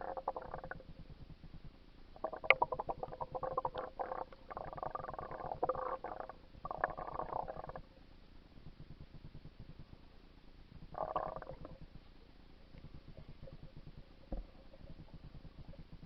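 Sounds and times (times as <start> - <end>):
faint low pulsing: 0.0 - 16.0
water gurgling and sloshing: 0.0 - 16.0.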